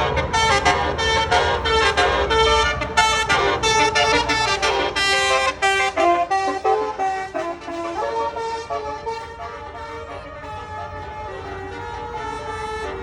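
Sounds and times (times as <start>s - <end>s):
low engine rumble: 0.0s - 13.0s
multi-tone air horn tune: 0.0s - 13.0s.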